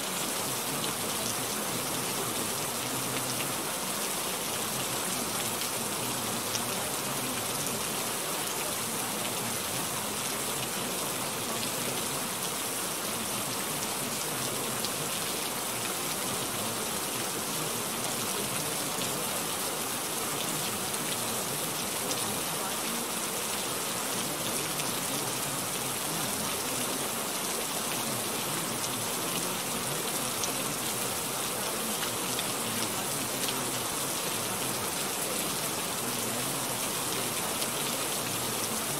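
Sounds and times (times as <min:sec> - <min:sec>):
faint ticks of raindrops: 0:00.0 - 0:38.9
steady rain hiss: 0:00.0 - 0:38.9.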